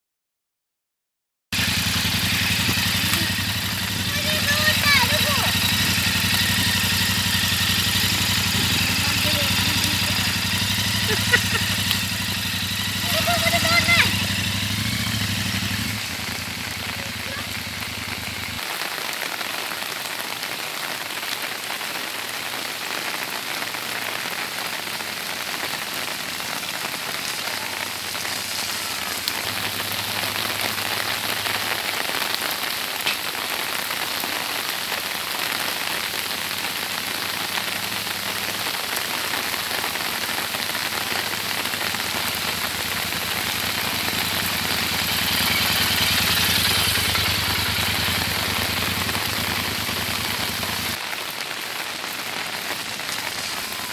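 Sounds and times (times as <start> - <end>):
motorcycle engine approaching: 1.6 - 18.7, 23.4 - 51.0
heavy rain on wet road: 1.6 - 53.9.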